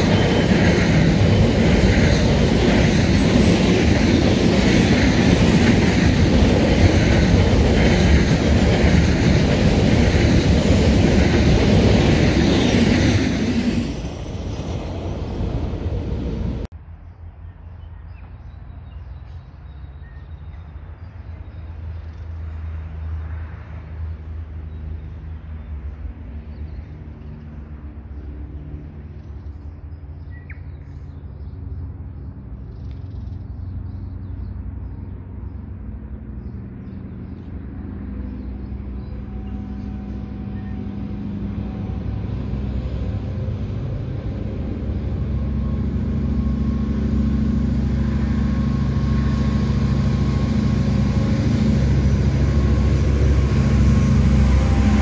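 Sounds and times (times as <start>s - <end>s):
wagons rumbling past: 0.0s - 16.7s, 24.6s - 55.0s
diesel locomotive engines droning: 0.0s - 55.0s.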